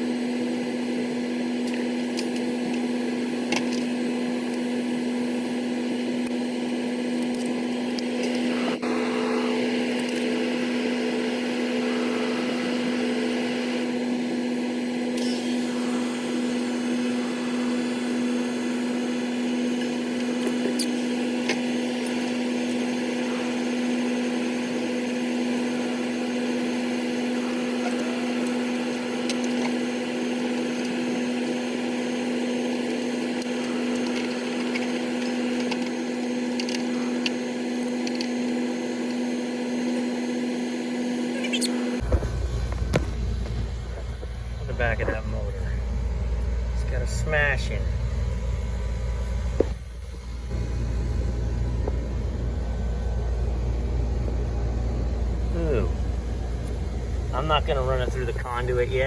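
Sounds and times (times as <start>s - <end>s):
electrical machinery hum: 0.0s - 59.0s.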